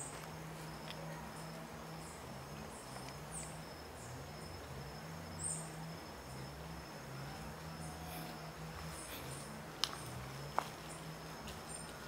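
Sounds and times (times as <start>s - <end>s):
high insect drone: 0.0s - 12.0s
low wavering hum: 0.0s - 12.0s.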